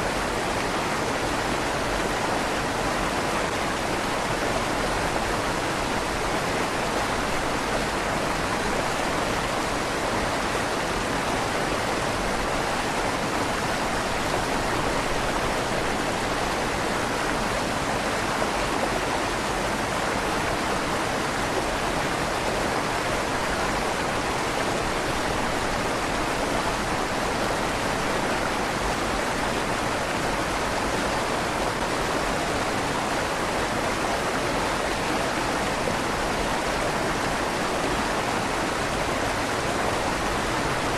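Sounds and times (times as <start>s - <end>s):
river water rushing under bridge: 0.0s - 40.9s.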